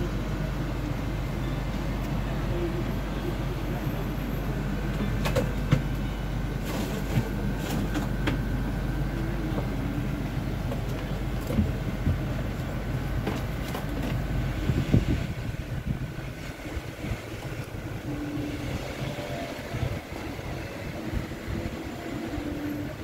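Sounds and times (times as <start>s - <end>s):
faint distant voices: 0.0s - 23.0s
low hum and rumble: 0.0s - 23.0s.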